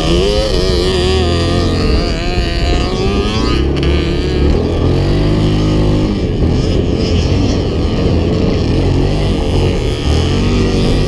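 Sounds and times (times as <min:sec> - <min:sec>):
off-road vehicle engines: 0:00.0 - 0:11.0.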